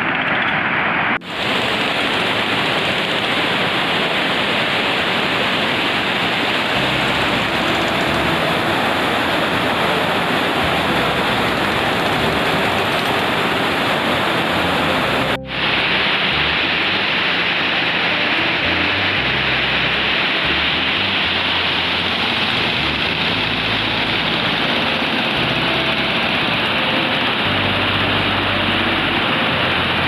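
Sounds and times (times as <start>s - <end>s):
water rushing over weir: 0.0s - 30.0s.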